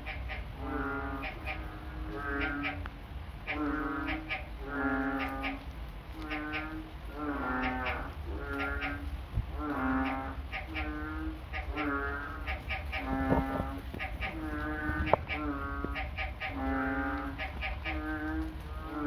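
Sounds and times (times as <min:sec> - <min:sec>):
animal nasal calls: 0:00.0 - 0:02.8, 0:03.5 - 0:05.6, 0:06.2 - 0:19.0
low steady hum: 0:00.0 - 0:19.0.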